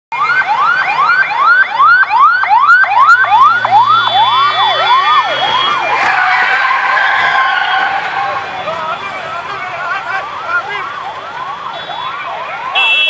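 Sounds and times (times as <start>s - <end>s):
ambulance siren yelp: 0.1s - 13.0s
road traffic passing: 0.1s - 13.0s.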